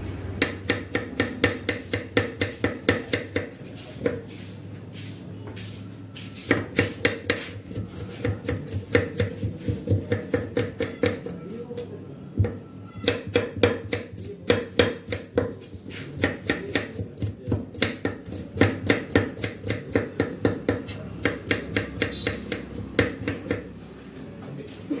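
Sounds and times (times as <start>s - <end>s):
knife chopping on wooden board: 0.4s - 4.2s, 6.4s - 11.3s, 12.4s - 23.7s.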